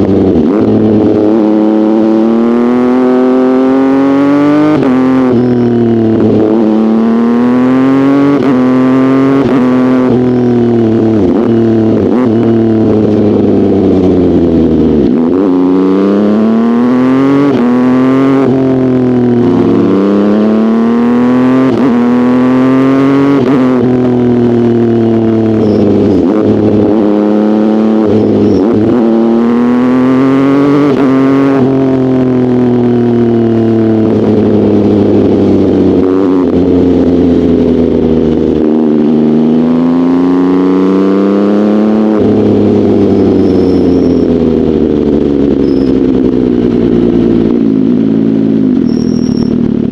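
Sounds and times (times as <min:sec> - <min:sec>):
motorcycle engine revving through gears: 0:00.0 - 0:49.9.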